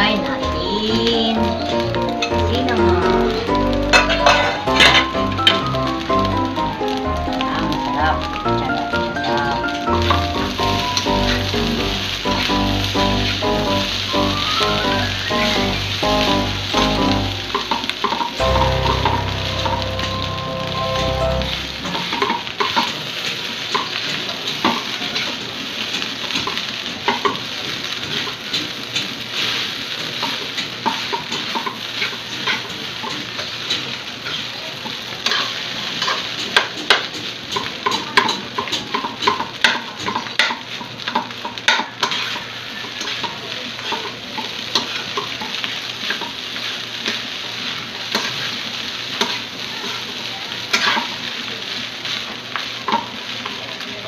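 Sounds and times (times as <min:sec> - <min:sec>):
rice sizzling in a pan: 0:00.0 - 0:54.0.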